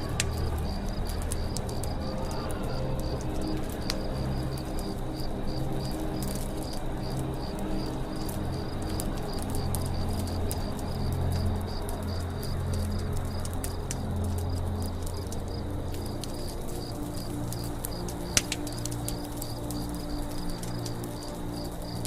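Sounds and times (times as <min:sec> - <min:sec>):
campfire crackling and popping: 0:00.0 - 0:22.0
insects chirping: 0:00.0 - 0:22.0.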